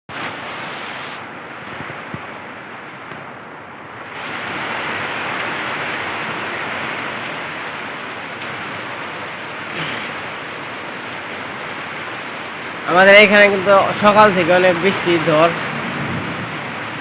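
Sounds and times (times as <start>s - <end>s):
heavy rain: 0.1s - 17.0s.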